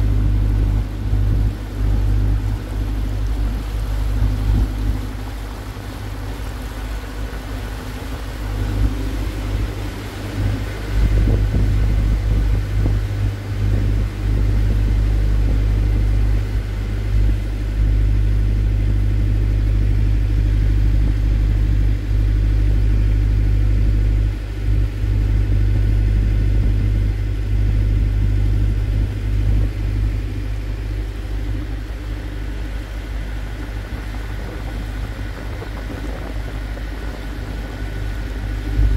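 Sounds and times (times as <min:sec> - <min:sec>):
boat motor rumbling: 0:00.0 - 0:38.9.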